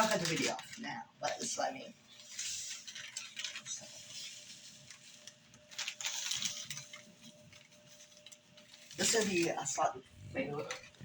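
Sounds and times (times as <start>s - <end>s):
rustling and scraping handling noises: 0.0s - 11.0s.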